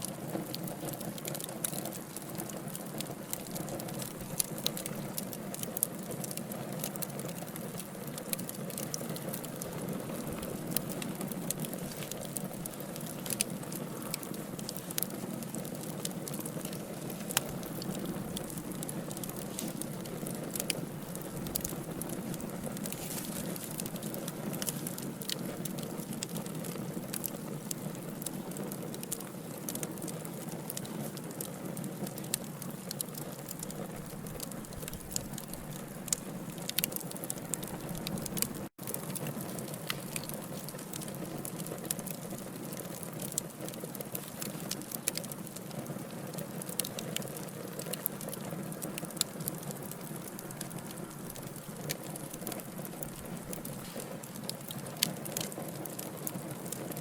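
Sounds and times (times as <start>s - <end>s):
flames rushing: 0.0s - 57.0s
logs crackling and popping: 0.0s - 57.0s.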